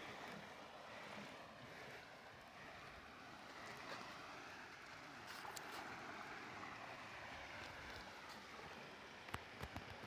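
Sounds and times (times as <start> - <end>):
flowing canal water: 0.0 - 10.0
wind: 0.0 - 10.0.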